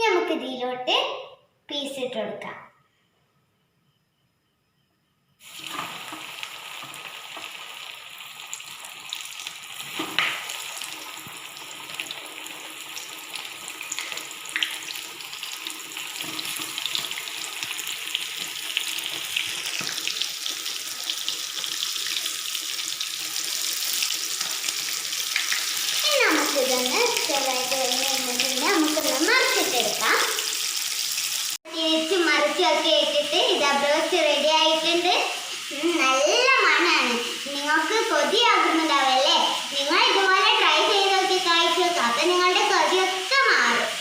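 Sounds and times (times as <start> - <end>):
chicken deep-frying in oil: 5.4 - 44.0.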